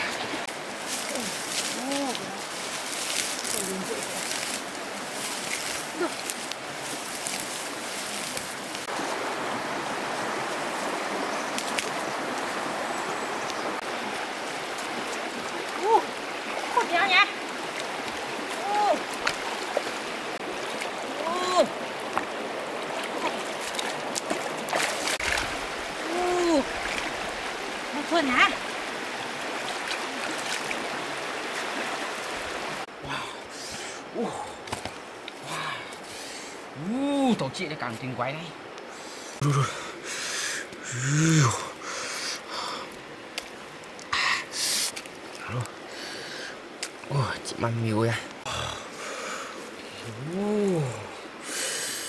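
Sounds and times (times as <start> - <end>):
river rushing over stones: 0.0 - 52.0.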